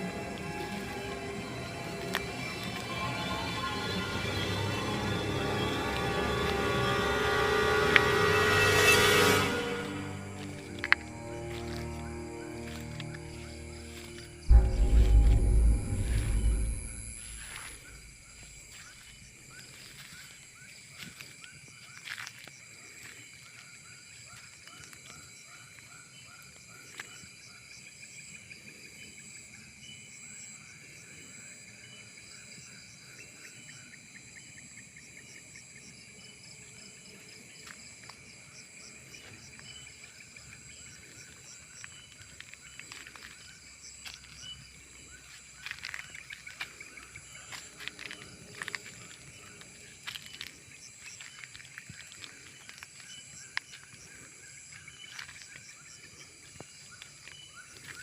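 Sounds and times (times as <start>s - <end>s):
insects buzzing and trilling: 0.0s - 15.5s, 17.4s - 58.0s.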